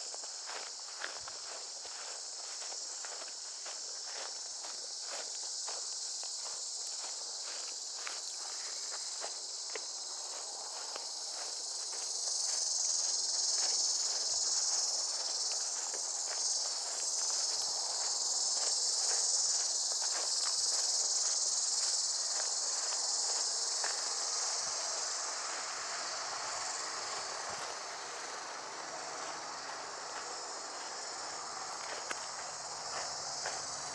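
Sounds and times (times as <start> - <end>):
footsteps: 0.0 - 33.9
high-pitched insect chorus: 0.0 - 33.9.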